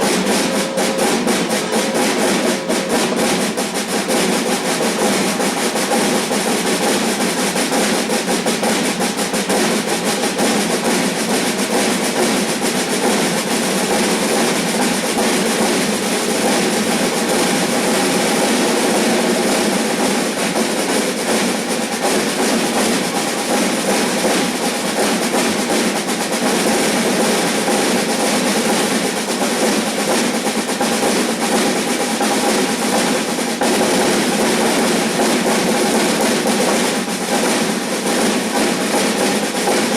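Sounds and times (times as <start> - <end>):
snare drum rapid strokes: 0.0 - 39.9.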